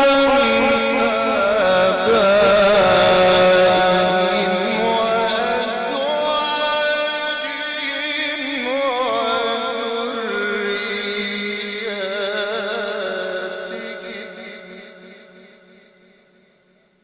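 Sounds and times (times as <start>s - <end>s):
man reciting melodically: 0.0s - 15.4s.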